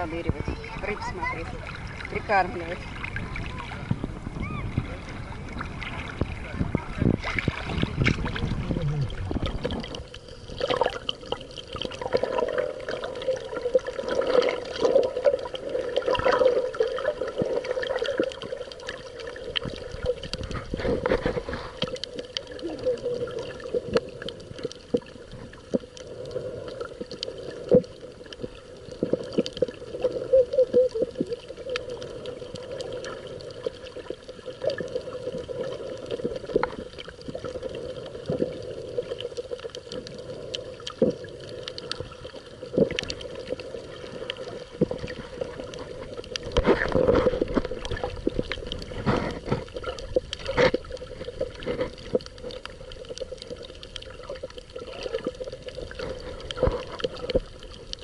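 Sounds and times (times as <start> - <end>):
muffled underwater noise: 0.0 - 58.0
rush of water: 0.0 - 58.0
swimming strokes underwater: 0.0 - 58.0
underwater clicks and crackles: 0.0 - 58.0.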